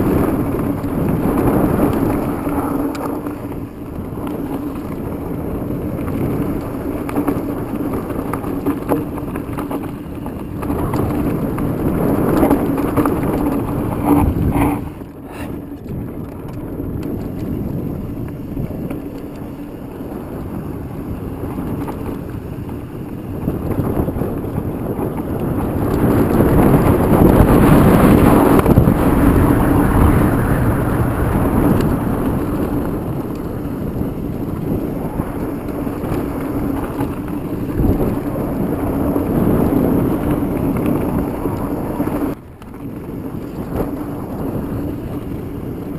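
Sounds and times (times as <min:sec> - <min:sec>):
bike tyre and frame rattle: 0:00.0 - 0:45.9
wind rushing over microphone: 0:00.0 - 0:45.9.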